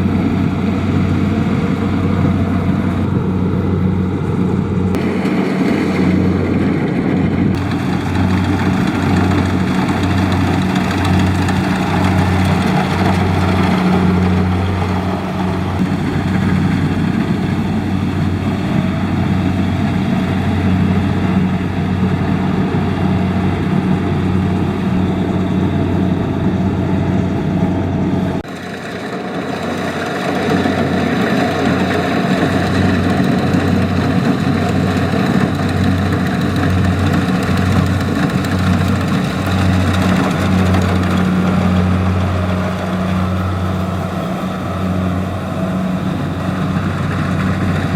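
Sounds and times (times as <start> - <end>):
combine harvester diesel engine: 0.0 - 47.9.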